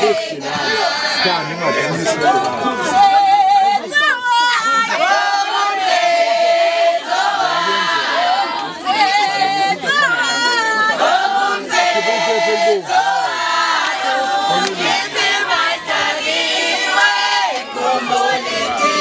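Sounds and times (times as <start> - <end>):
crowd noise: 0.0 - 19.0
crowd singing together: 0.0 - 19.0.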